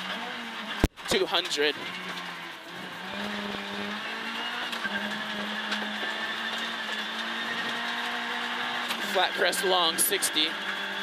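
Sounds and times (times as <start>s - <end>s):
car engine revving high: 0.0s - 11.0s
road noise: 0.0s - 11.0s.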